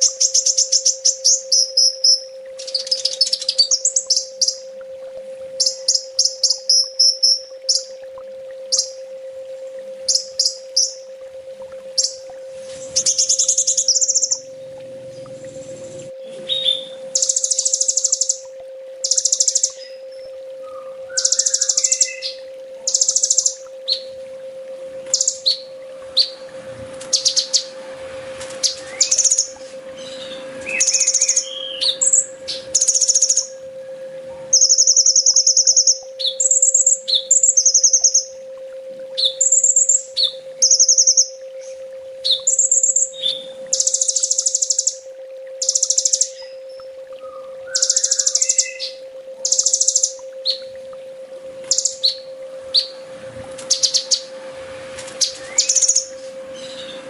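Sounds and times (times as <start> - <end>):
bird high-pitched trills and chirps: 0.0 - 4.7, 5.6 - 7.9, 8.7 - 9.0, 10.1 - 11.1, 12.0 - 24.2, 25.0 - 27.8, 28.4 - 33.6, 34.4 - 38.4, 39.2 - 50.8, 51.6 - 54.3, 55.1 - 57.0
steady low hum: 0.0 - 57.0.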